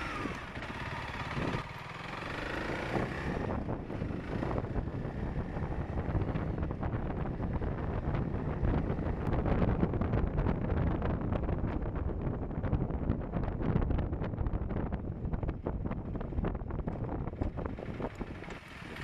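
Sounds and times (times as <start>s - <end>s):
motorcycle running noise: 0.0s - 19.0s
wind buffeting microphone: 0.0s - 19.0s.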